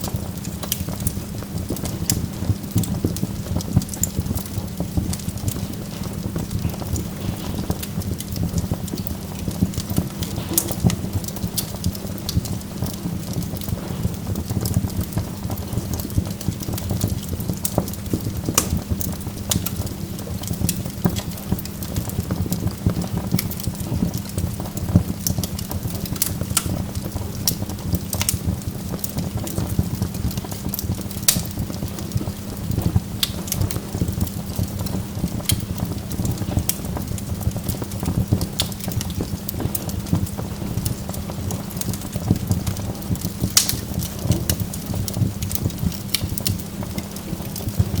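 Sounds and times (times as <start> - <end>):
burning logs crackling: 0.0 - 48.0
low rumble of fire: 0.0 - 48.0.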